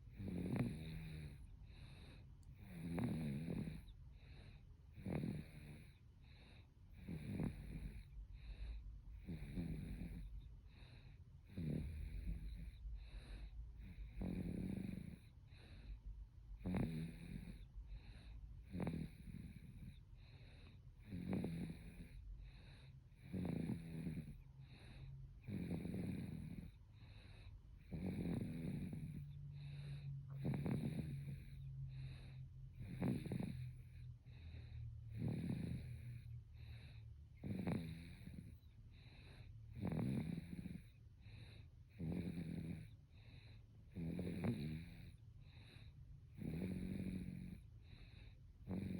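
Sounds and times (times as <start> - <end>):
baby snoring: 0.0 - 16.0, 16.6 - 48.9.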